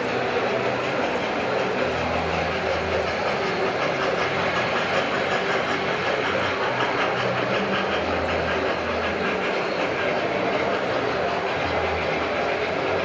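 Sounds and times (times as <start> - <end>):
model train wheels whirring: 0.0 - 13.0.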